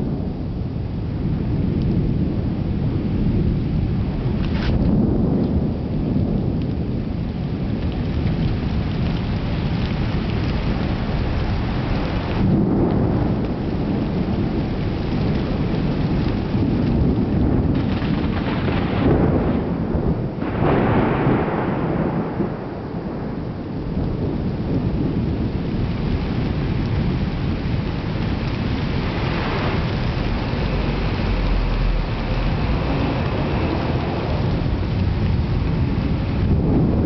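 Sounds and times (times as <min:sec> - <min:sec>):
heavy rain: 0:00.0 - 0:37.0
rolling thunder: 0:00.0 - 0:37.0.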